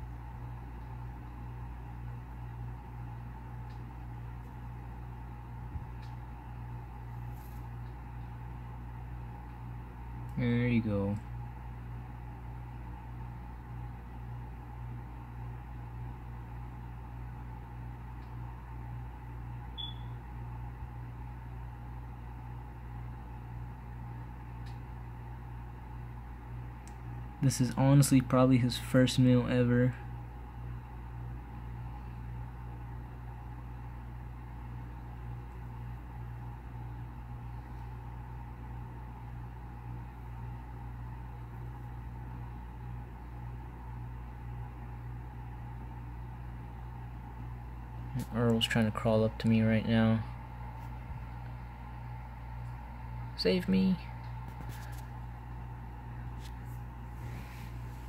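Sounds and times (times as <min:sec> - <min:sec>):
low hum with hiss: 0:00.0 - 0:58.0.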